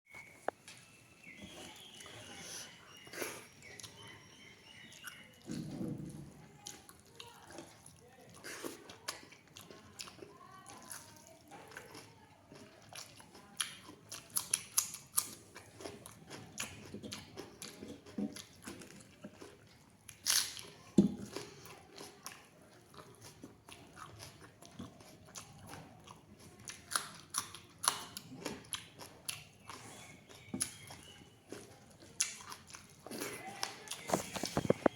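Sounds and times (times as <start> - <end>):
person chewing: 0.2 - 5.8, 6.5 - 34.9.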